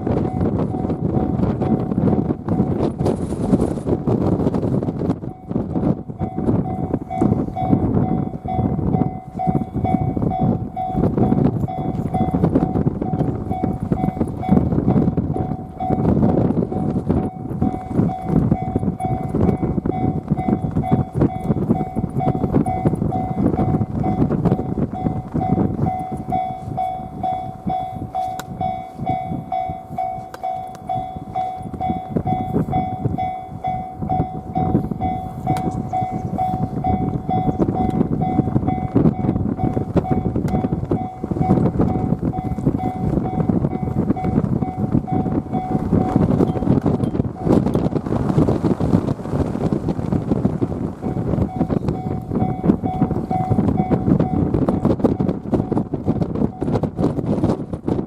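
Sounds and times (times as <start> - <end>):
level crossing warning bell: 0.0 - 48.6, 50.5 - 57.4
passing train rumble: 0.0 - 58.0
wind buffeting microphone: 0.0 - 58.0.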